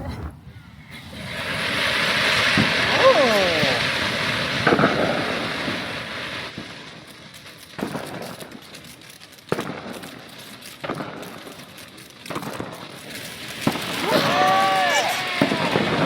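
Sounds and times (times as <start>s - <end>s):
fireworks bangs with hiss: 0.2s - 16.0s.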